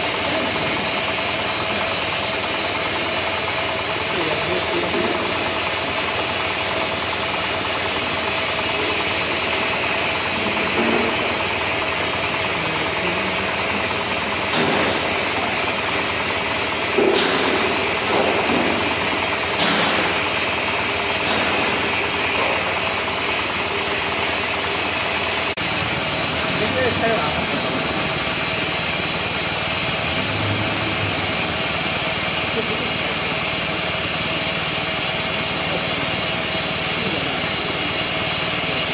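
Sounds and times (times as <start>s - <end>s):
machine running with hiss: 0.0s - 38.9s.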